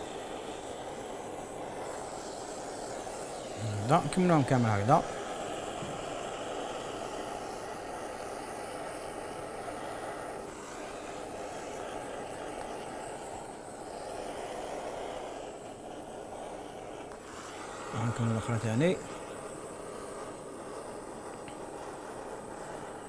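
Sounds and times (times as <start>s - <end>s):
gas blowtorch flame hissing: 0.0s - 23.0s.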